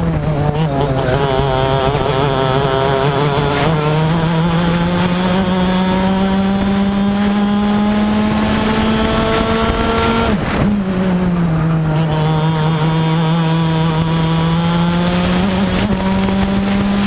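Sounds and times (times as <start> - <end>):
kart engine revving: 0.0 - 17.0.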